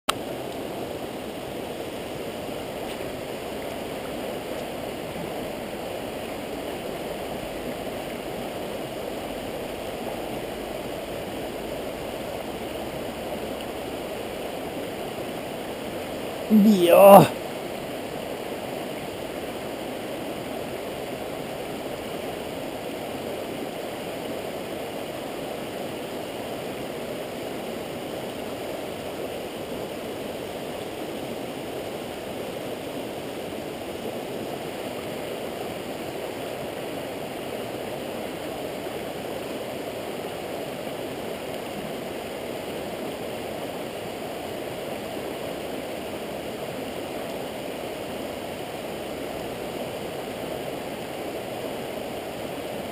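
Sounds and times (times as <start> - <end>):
stream rushing over rocks: 0.1 - 52.9.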